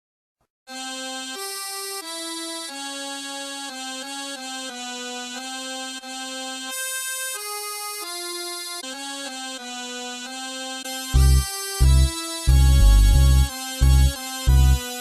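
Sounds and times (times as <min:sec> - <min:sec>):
lone melody of held notes: 0:00.7 - 0:15.0.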